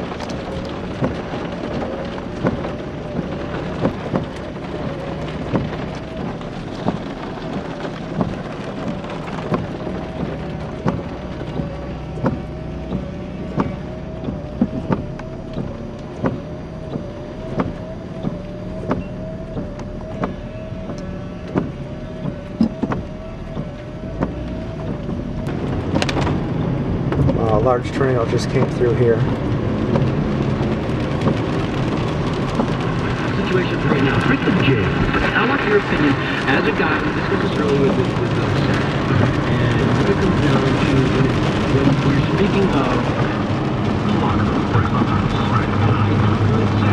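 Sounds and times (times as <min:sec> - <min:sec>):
rain ticking on car body: 0:00.0 - 0:46.9
road and engine drone: 0:00.0 - 0:46.9.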